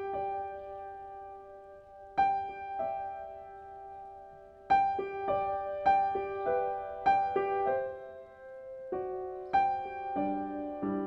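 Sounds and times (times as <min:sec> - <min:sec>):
slow gentle piano: 0:00.0 - 0:11.0.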